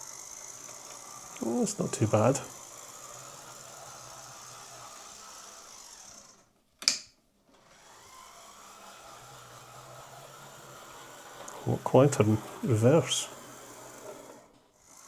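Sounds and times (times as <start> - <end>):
model train motor buzzing: 0.0 - 6.6, 7.5 - 15.0.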